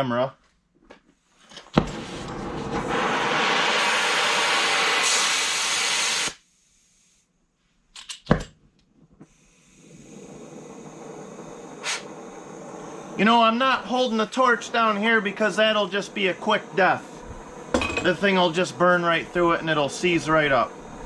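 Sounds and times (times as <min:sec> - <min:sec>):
torch flame hissing: 0:01.8 - 0:07.2, 0:09.2 - 0:21.0
air grinder hissing: 0:01.9 - 0:07.1, 0:09.2 - 0:21.0.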